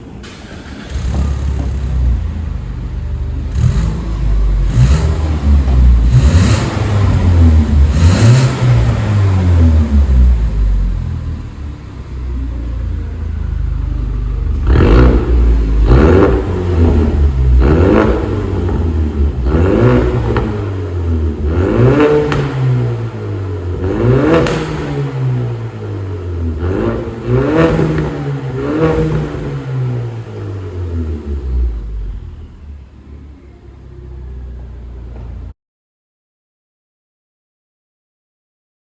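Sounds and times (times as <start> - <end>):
car engine revving: 0.1 - 35.4.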